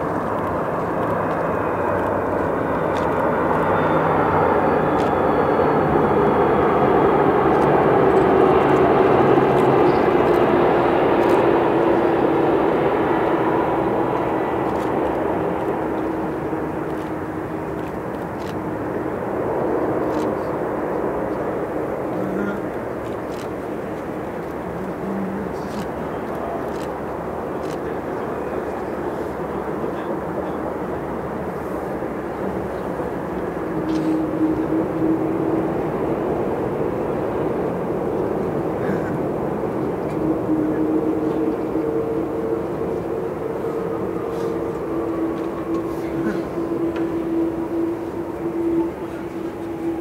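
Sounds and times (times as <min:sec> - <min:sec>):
jet engine roar: 0:00.0 - 0:50.0.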